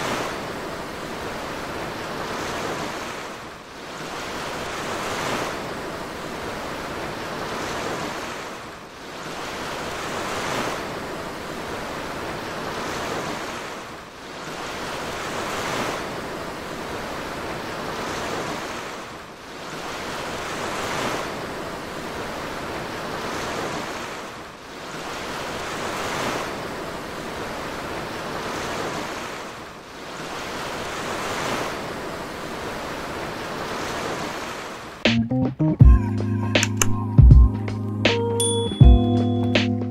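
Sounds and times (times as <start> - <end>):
wind: 0.0 - 35.2, 36.0 - 39.9.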